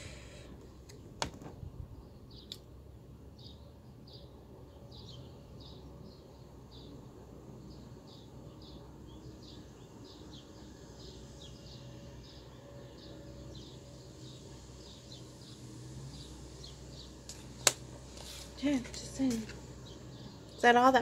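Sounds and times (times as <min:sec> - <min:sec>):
small bird chirping: 0:02.0 - 0:02.7, 0:03.4 - 0:07.0, 0:07.6 - 0:21.0.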